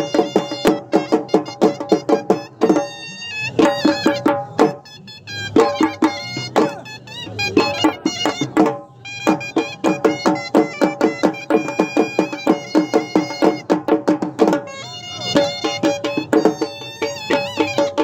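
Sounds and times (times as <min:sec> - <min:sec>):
reedy wind instrument melody: 0:00.0 - 0:18.0.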